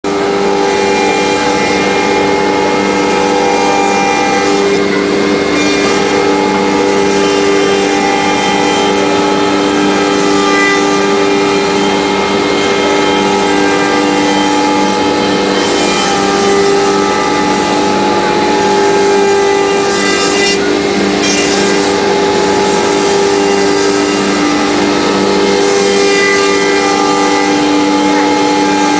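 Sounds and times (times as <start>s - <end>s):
cnc router whining: 0.0s - 28.9s.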